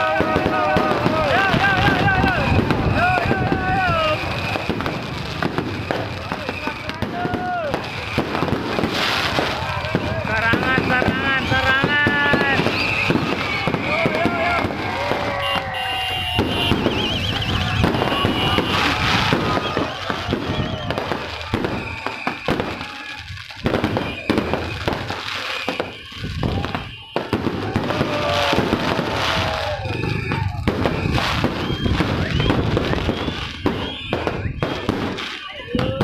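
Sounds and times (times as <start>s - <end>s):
firework whistling glides: 0.0s - 36.0s
fireworks bangs and crackles: 0.0s - 36.0s.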